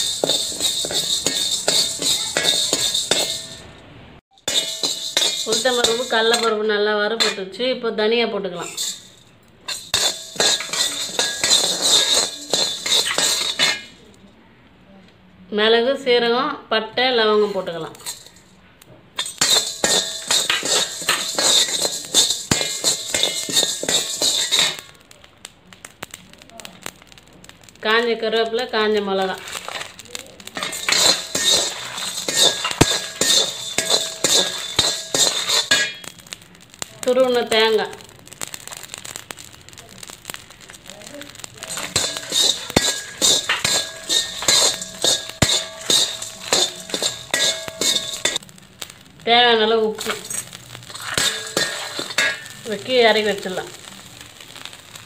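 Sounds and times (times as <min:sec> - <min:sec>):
metal spoon scraping spices in pan: 0:00.0 - 0:03.7, 0:04.3 - 0:07.6, 0:08.6 - 0:14.2, 0:17.4 - 0:18.6, 0:19.2 - 0:25.2, 0:25.8 - 0:55.0.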